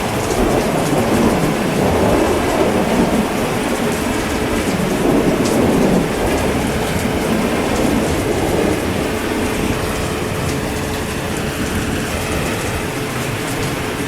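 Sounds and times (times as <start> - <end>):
heavy rain: 0.0 - 14.0
low thunder rumble: 0.0 - 14.0.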